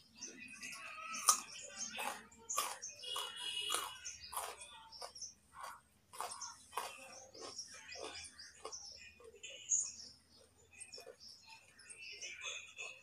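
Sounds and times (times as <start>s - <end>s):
carrot crunching while chewed: 0.2s - 9.5s, 10.1s - 13.0s.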